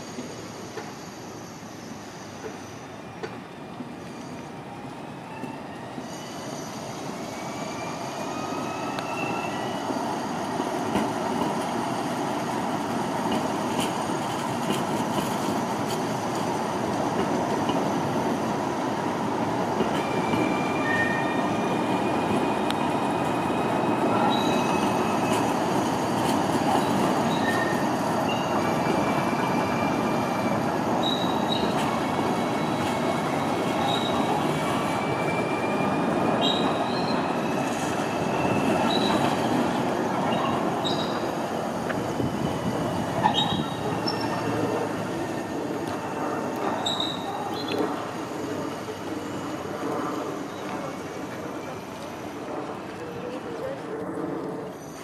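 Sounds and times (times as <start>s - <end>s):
tram rolling rumble: 0.0s - 55.0s.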